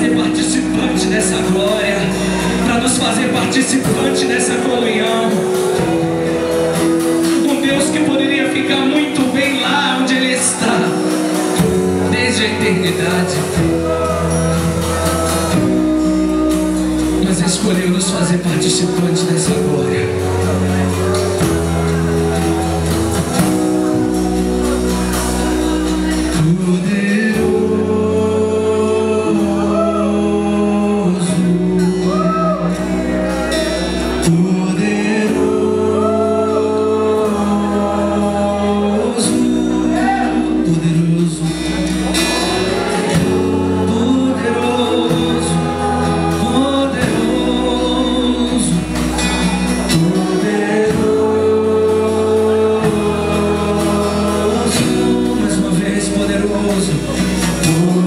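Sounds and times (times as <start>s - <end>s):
band playing slow chords: 0.0s - 58.0s
person singing: 0.0s - 58.0s.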